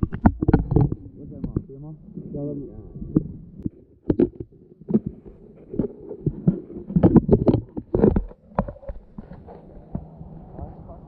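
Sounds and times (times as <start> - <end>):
muffled underwater knocks and thumps: 0.0 - 2.3, 2.9 - 11.0.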